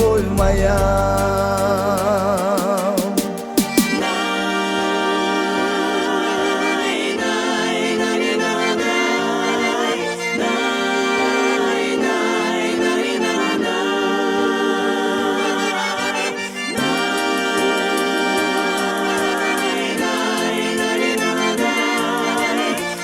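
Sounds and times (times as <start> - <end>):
instrumental pop music: 0.0 - 23.0.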